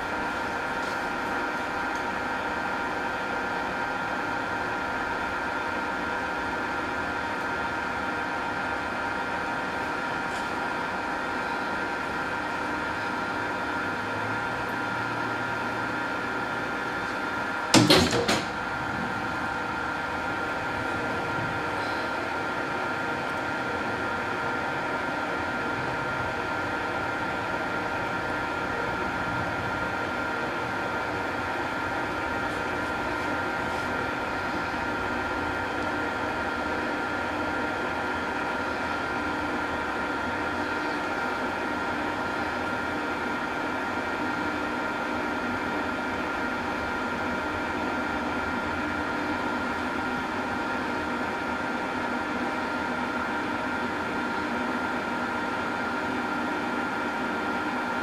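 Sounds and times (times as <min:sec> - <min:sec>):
lathe machine hum: 0:00.0 - 0:58.0.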